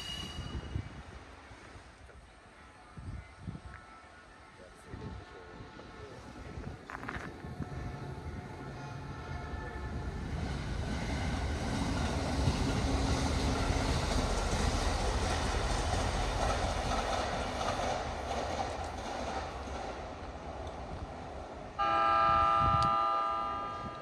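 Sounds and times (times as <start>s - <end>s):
train passing: 0.0s - 2.8s, 4.1s - 24.0s.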